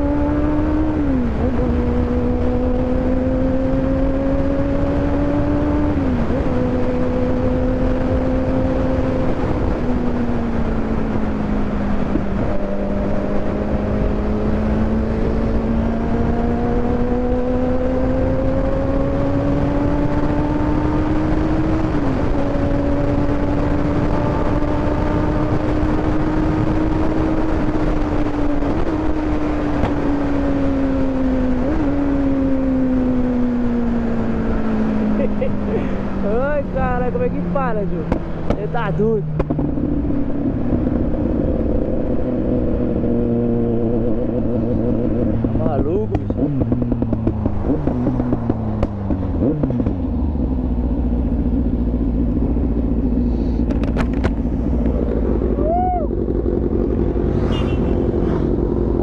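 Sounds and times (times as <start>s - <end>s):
motorcycle engine revving: 0.0s - 59.0s
wind rumble: 0.0s - 59.0s.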